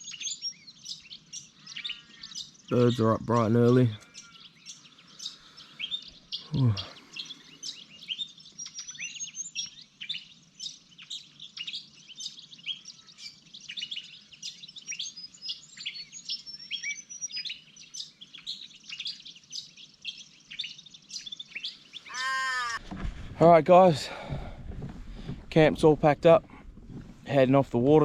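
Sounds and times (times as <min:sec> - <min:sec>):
songbirds chorus: 0:00.0 - 0:28.0.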